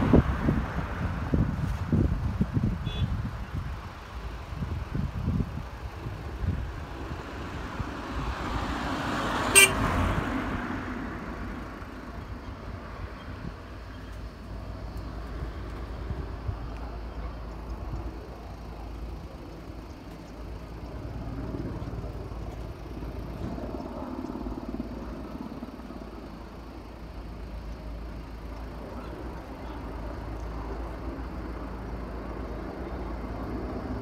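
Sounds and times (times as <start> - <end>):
vehicle engine rumble: 0.0 - 34.0.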